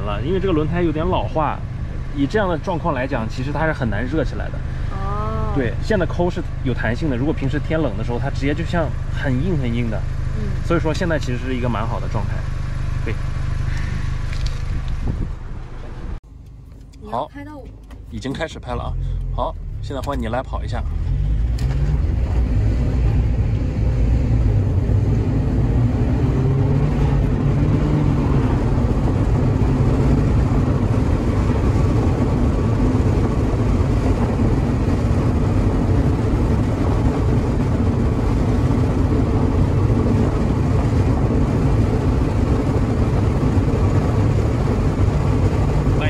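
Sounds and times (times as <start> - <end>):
car engine and tyre drone: 0.0 - 5.0, 5.6 - 46.0.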